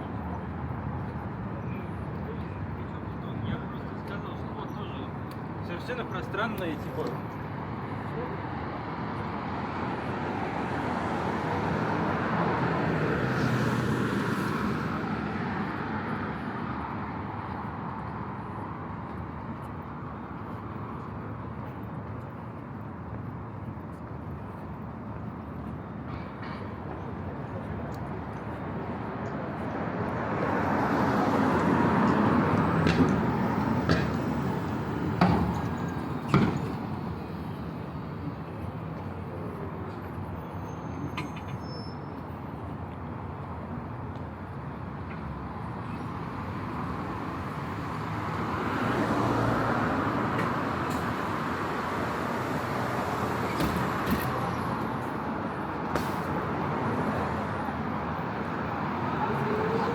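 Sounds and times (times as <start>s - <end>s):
steady traffic hum: 0.0s - 59.9s
vehicles passing by: 0.0s - 59.9s.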